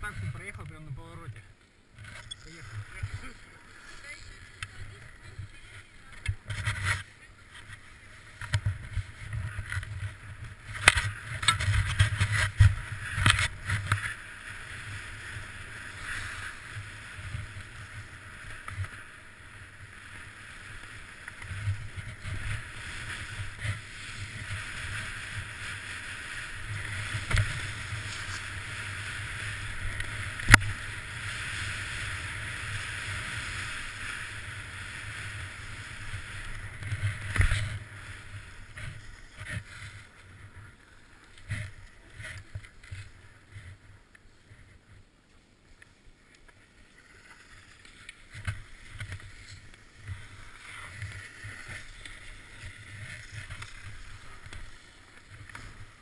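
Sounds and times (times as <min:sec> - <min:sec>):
skis scraping over snow: 0:02.0 - 0:56.0.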